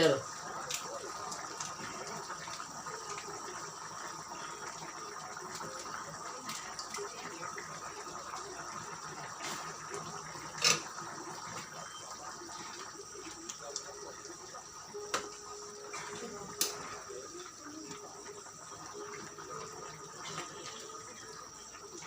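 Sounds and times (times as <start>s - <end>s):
pot bubbling and simmering: 0.0s - 22.0s.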